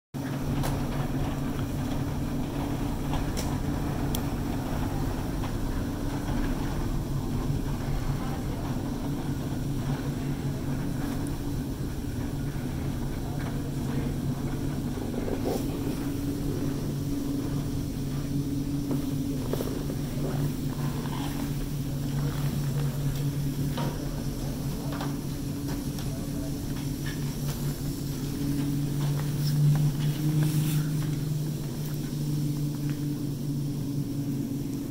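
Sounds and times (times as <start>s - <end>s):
cable running over wheels humming: 0.2s - 34.9s.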